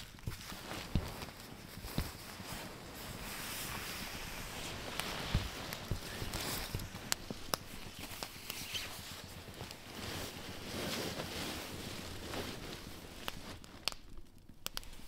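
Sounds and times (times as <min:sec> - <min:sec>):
sleeping bag rustling: 0:00.0 - 0:14.1.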